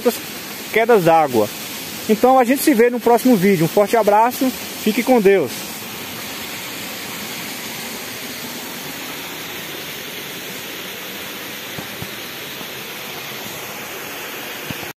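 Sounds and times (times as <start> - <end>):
small waterfall pouring: 0.0 - 15.0.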